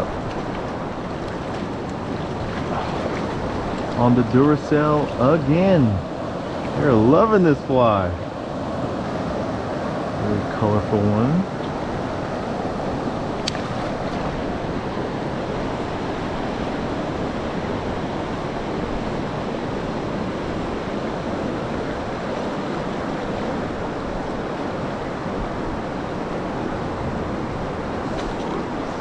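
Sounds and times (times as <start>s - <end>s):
river water flowing over rocks: 0.0s - 29.0s.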